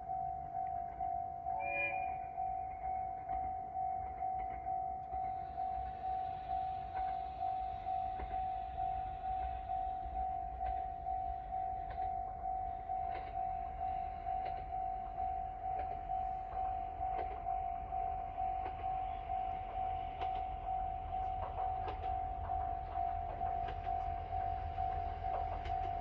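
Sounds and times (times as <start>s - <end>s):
diesel railcar rumble: 0.0s - 26.0s
level crossing warning bell: 0.0s - 26.0s.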